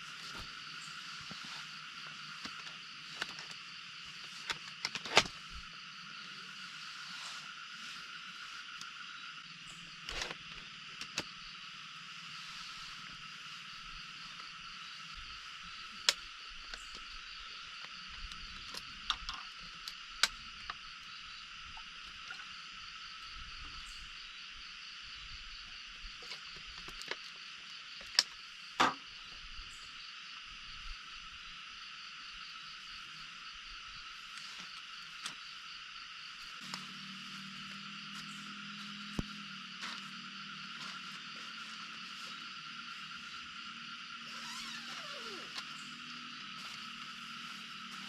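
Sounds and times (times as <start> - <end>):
insects calling: 0.0 - 48.0.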